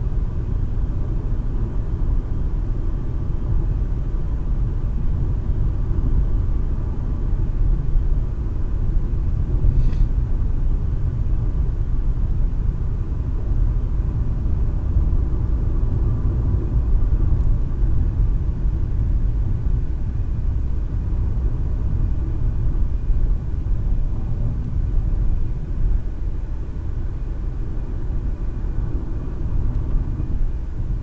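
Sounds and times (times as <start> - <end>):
car tyres and engine rumbling: 0.0 - 31.0.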